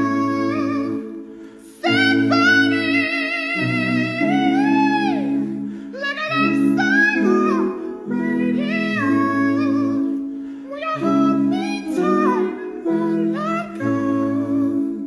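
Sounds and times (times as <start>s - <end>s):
men singing a cappella: 0.0s - 15.0s.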